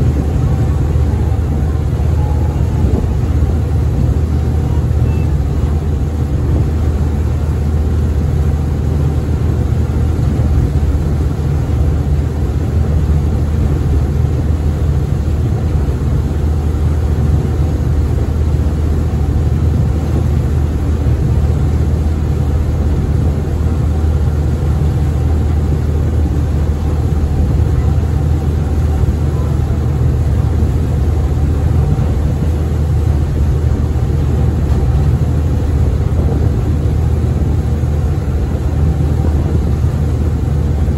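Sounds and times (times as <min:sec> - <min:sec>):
ferry engine droning: 0:00.0 - 0:40.9.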